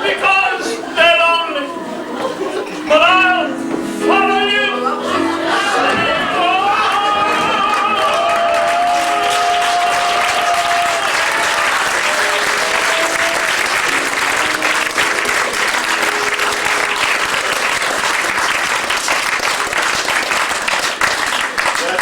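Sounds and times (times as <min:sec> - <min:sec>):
music notes: 0:00.0 - 0:19.4
audience applauding: 0:00.0 - 0:22.0.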